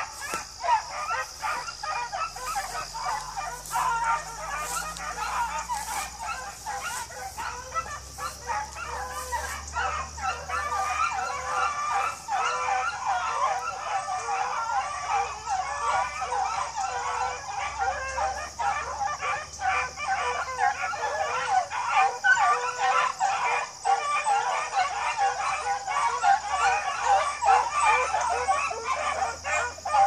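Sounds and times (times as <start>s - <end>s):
hounds baying: 0.0s - 30.0s.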